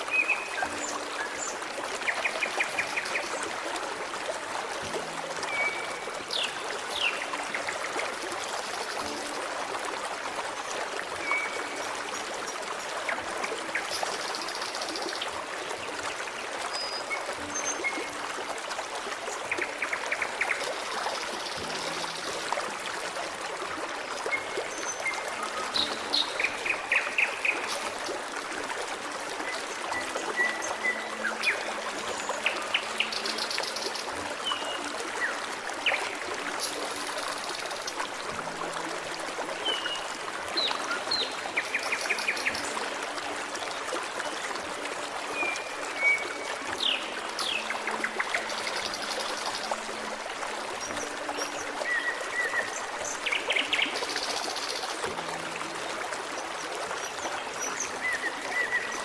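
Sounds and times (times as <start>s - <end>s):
stream trickling and babbling: 0.0s - 59.0s.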